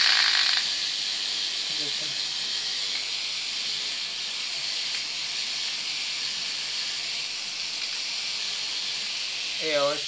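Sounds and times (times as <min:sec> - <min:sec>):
contactor coil buzzing: 0:00.0 - 0:10.0.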